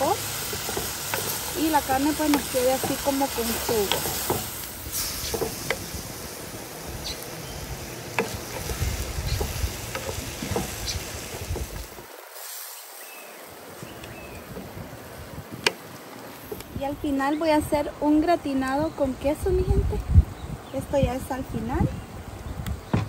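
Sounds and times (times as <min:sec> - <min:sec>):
meat sizzling in clay pot: 0:00.0 - 0:22.9.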